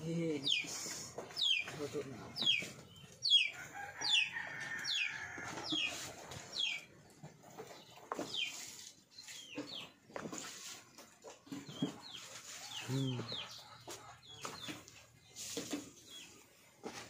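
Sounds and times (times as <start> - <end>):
chickens calling: 0.4 - 17.0.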